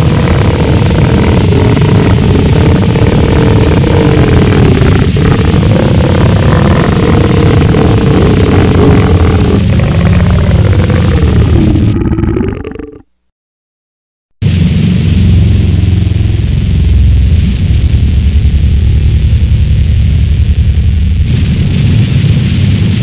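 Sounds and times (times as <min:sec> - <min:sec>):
steady drone: 0:00.0 - 0:12.9, 0:14.4 - 0:23.0
deep rumble: 0:00.0 - 0:13.0, 0:14.4 - 0:23.0
heavily distorted noise: 0:00.0 - 0:13.1, 0:14.4 - 0:23.0.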